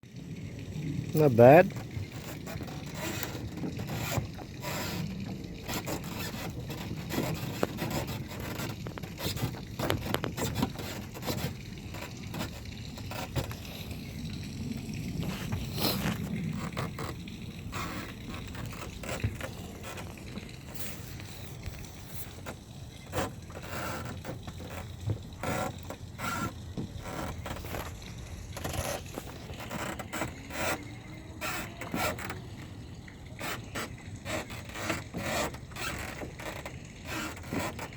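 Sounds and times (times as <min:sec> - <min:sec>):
scraping and knocks in canoe: 0:01.2 - 0:37.9.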